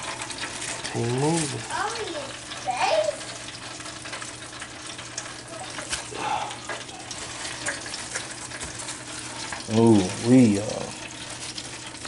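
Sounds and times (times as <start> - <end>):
hot oil bubbling and crackling: 0.0 - 12.0.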